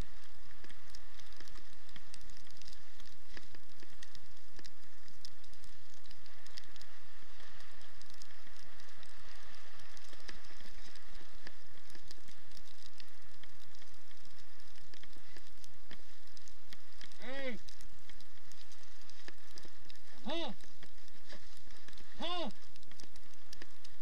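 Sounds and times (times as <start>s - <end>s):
dogs' paws pattering: 0.0s - 24.0s
small clicks and knocks: 0.0s - 24.0s.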